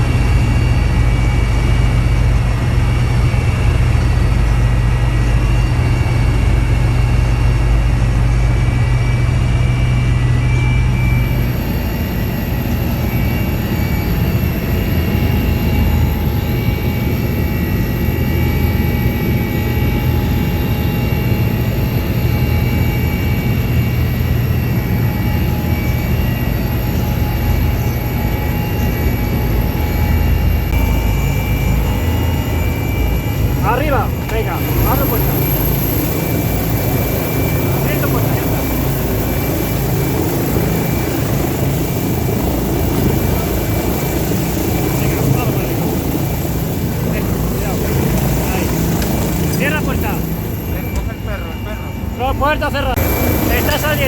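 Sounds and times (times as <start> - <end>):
helicopter turbine and rotor: 0.0 - 54.0.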